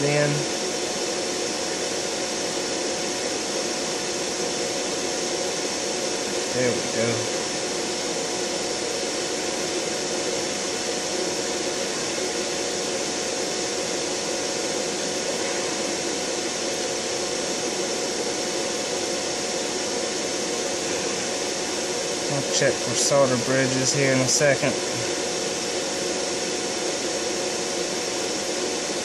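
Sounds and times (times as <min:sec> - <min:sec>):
electric fan blowing: 0:00.0 - 0:29.0.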